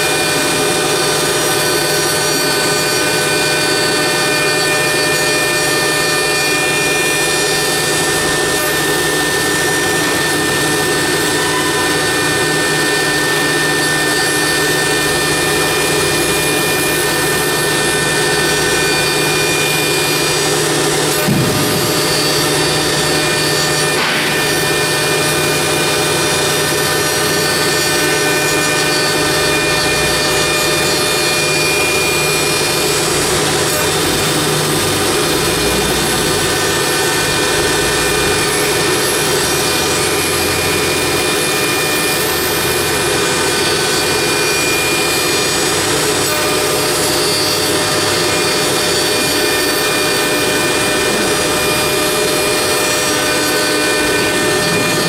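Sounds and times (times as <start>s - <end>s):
bit milling wood: 0.0s - 55.0s
router spindle whine: 0.0s - 55.0s.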